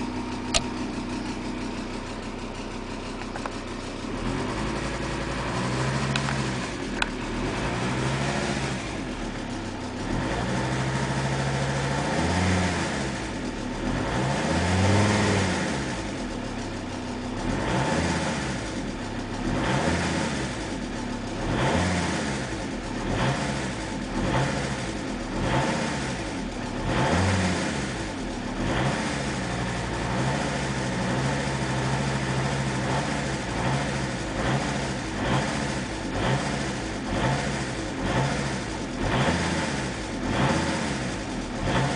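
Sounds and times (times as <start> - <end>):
diesel engine idling and revving: 0.0 - 41.9
engine ticking: 0.0 - 41.9.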